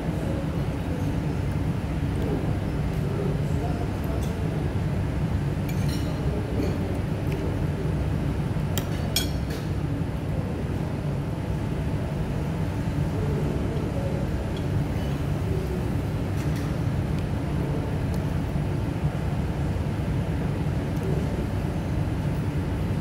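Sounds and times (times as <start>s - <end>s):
low room rumble: 0.0s - 23.0s.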